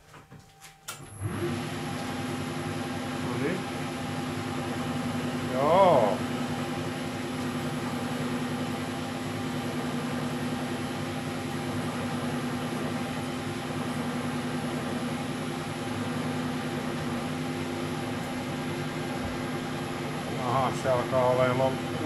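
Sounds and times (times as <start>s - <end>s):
metal lathe humming: 1.2s - 22.0s.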